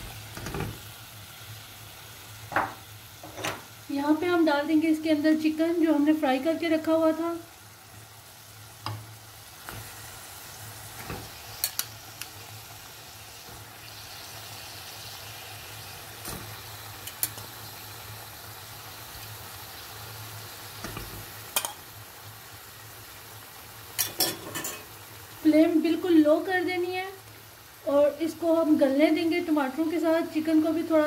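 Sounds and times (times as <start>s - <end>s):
oil and tomatoes sizzling: 0.0s - 31.0s.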